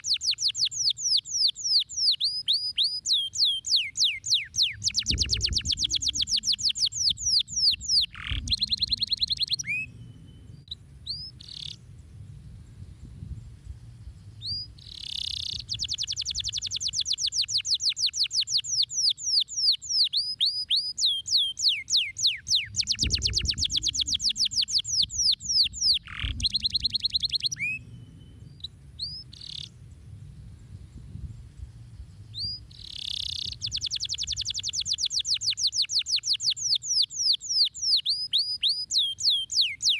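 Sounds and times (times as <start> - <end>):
canary singing trills: 0.0 - 11.8, 14.3 - 29.8, 32.1 - 39.9.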